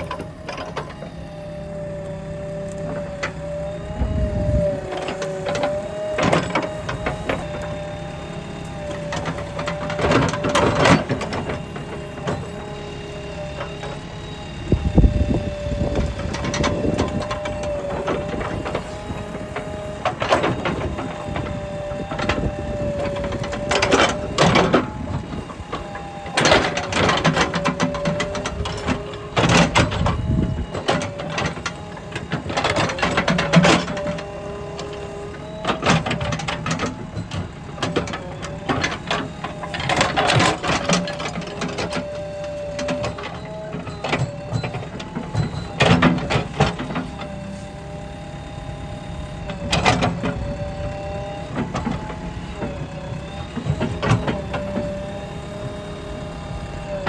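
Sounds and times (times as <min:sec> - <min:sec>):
digger engine under load: 0:00.0 - 0:57.0
hydraulic whine: 0:00.0 - 0:57.0.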